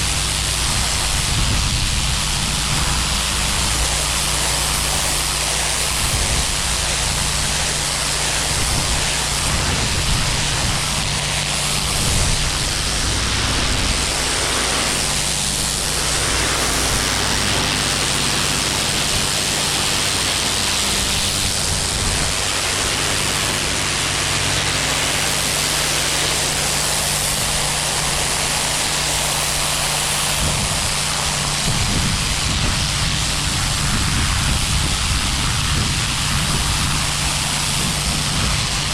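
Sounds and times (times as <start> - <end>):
engine humming low: 0.0 - 38.9
high-pressure water spray hiss: 0.0 - 38.9.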